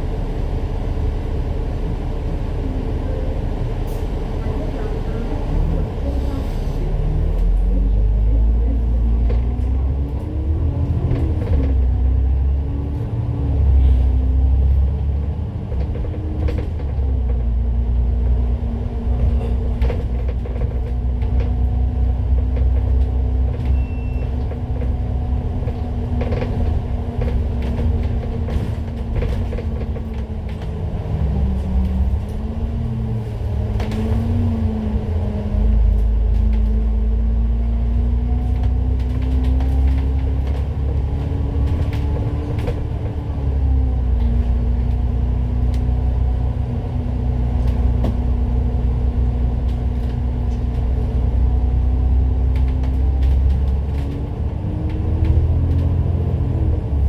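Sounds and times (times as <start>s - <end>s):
bus engine drone on board: 0.0s - 57.0s.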